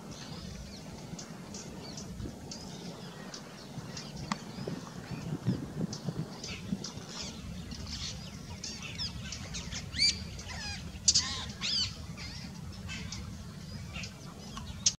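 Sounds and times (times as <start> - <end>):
low background rumble: 0.0 - 15.0
wild birds calling: 0.0 - 15.0.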